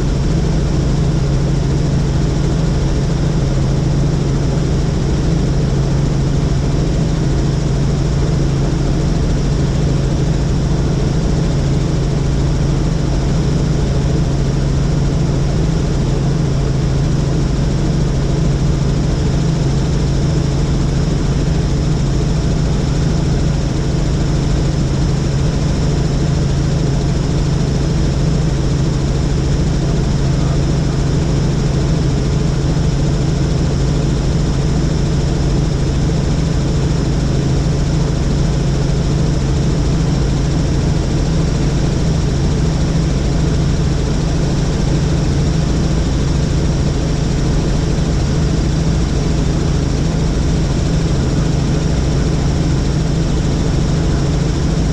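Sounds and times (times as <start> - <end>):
helicopter engine and rotor hum: 0.0 - 54.9.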